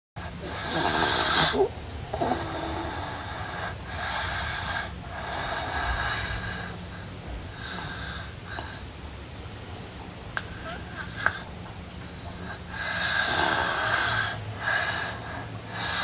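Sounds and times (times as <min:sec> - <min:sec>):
girl snoring: 0:00.4 - 0:06.9, 0:07.5 - 0:08.9, 0:10.4 - 0:11.5, 0:12.1 - 0:16.0.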